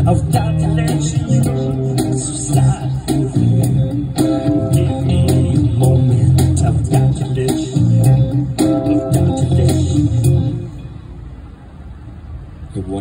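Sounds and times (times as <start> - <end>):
deep bass notes: 0.0 - 10.8
steady beat: 0.0 - 10.8
electric guitar with effects: 0.0 - 11.1.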